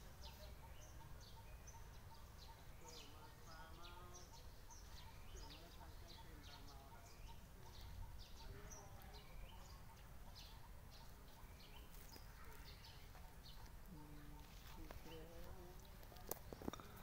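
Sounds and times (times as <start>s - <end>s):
faint birdsong chirps: 0.0s - 17.0s.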